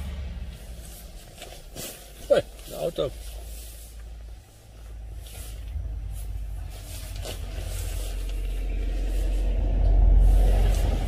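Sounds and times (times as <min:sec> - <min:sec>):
car passing with deep rumble: 0:00.0 - 0:11.0.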